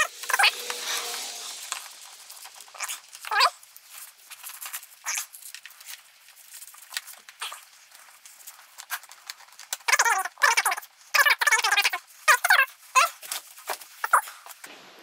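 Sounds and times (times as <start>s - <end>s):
faint clicks and rustling: 1.6s - 14.7s.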